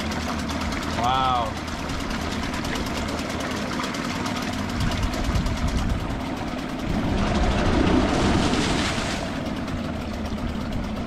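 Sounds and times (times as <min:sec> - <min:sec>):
outboard motor buzzing: 0:00.0 - 0:11.0.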